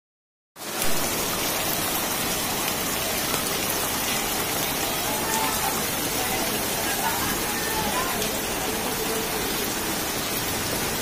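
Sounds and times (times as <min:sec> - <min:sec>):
torrential rain: 0:00.6 - 0:11.0.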